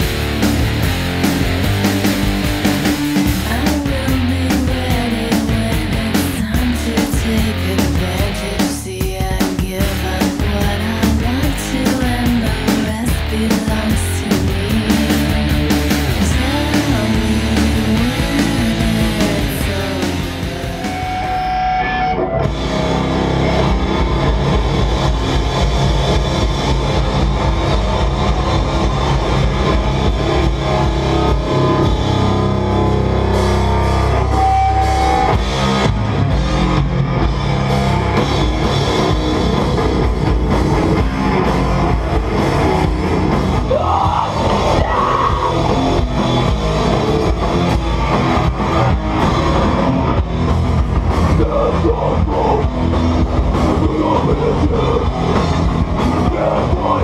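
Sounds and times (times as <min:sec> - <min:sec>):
distorted guitar and bass: 0:00.0 - 0:57.0
drum kit: 0:00.0 - 0:57.0.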